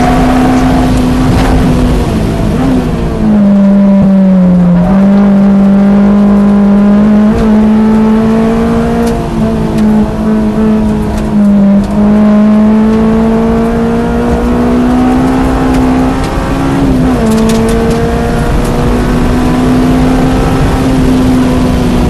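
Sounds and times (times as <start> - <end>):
car engine running hard: 0.0 - 22.0.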